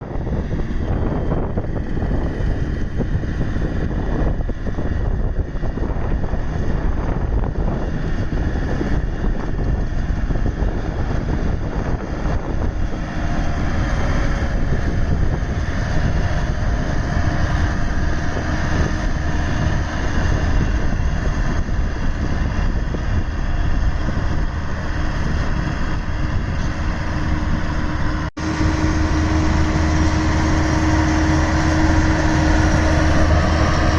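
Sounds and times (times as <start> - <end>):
road roller engine running: 0.0 - 33.9.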